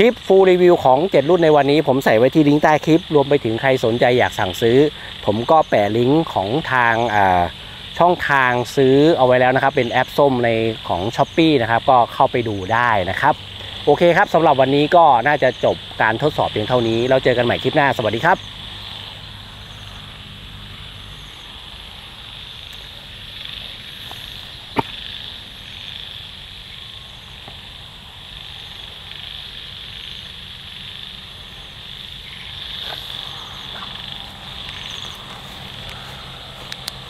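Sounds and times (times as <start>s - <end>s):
high-pitched insect drone: 0.0s - 37.0s
short frog calls: 0.0s - 37.0s.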